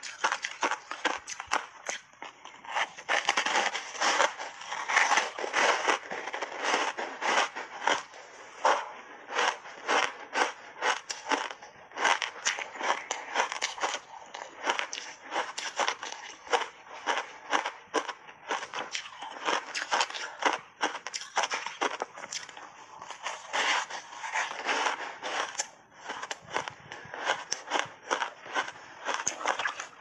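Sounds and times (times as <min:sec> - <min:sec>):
chewing crunchy ice: 0:00.0 - 0:30.0.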